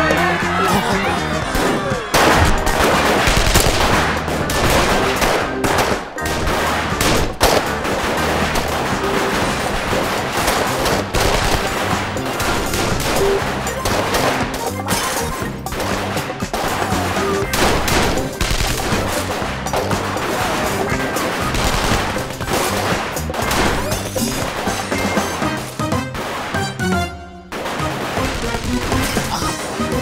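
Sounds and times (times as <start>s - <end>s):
rapid gunfire: 0.0s - 30.0s
tense music score: 0.0s - 30.0s.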